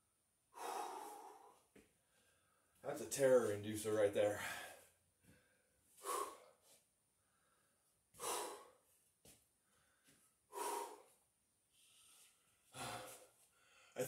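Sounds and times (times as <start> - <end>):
man breathing hard: 0.5 - 2.8, 4.2 - 14.0.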